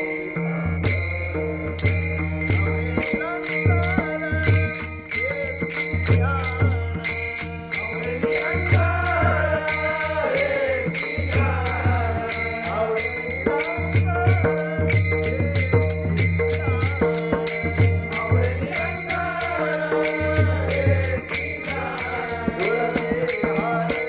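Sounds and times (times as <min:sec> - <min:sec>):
person singing: 0:00.0 - 0:24.0
small hand cymbals: 0:00.0 - 0:24.0.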